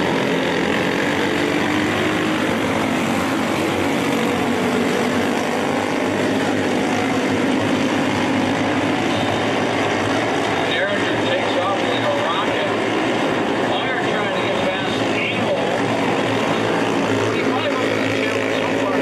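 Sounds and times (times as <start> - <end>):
small racing engines droning: 0.0 - 19.0.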